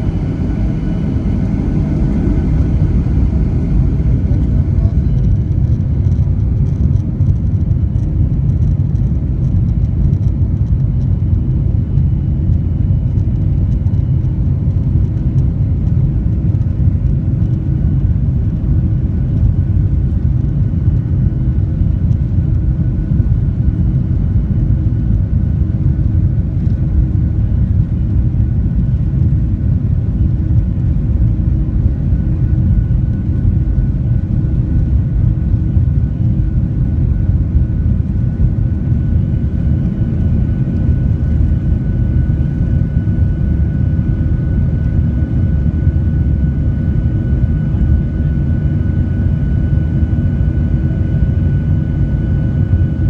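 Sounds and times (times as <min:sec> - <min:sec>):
jet engine rumble and whine: 0:00.0 - 0:53.0.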